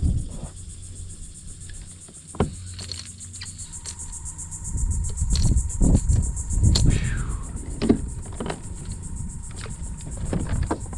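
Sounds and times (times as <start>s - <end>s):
insects chorus: 0.0s - 10.9s
thin steady tone: 0.6s - 10.9s.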